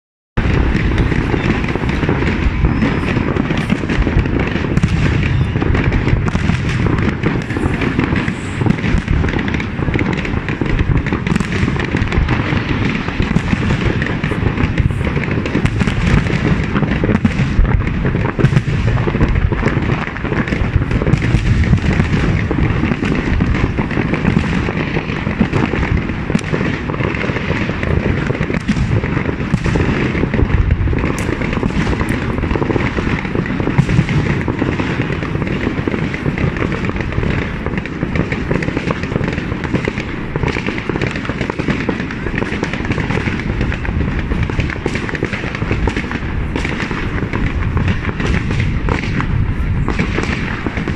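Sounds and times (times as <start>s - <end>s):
fireworks bangs and crackling: 0.4s - 50.9s.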